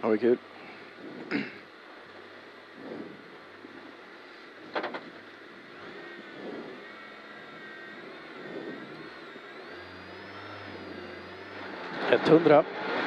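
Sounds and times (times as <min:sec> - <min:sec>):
car engine idling: 0:00.0 - 0:13.0
faint steady whining tones: 0:00.0 - 0:13.0.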